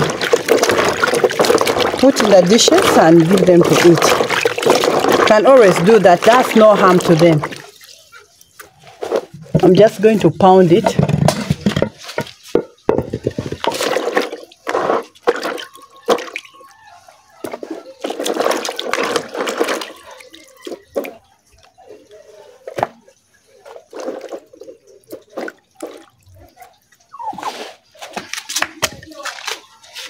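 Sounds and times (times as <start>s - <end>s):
water splashing in a plastic basin: 0.0s - 29.6s.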